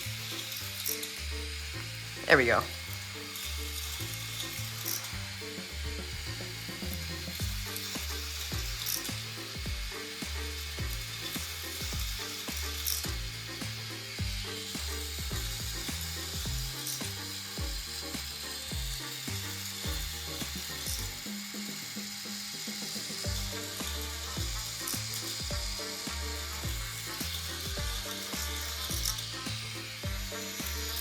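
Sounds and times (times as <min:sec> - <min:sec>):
bass-heavy background music: 0:00.0 - 0:31.0
toy roller coaster clattering: 0:00.0 - 0:31.0.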